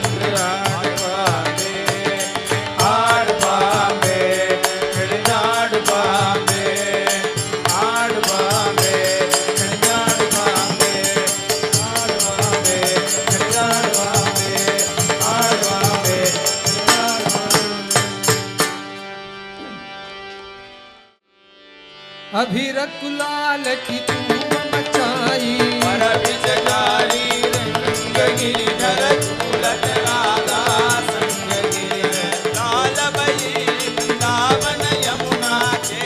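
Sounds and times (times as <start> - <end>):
devotional instrumental music: 0.0 - 36.0.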